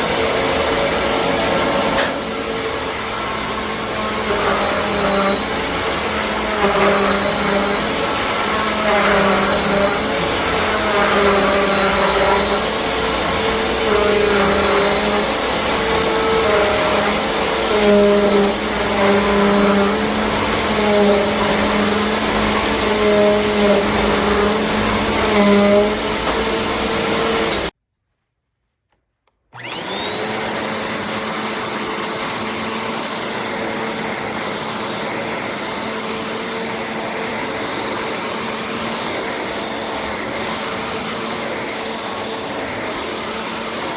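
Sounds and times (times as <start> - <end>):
upright vacuum cleaner running: 0.0 - 27.7, 29.5 - 43.9.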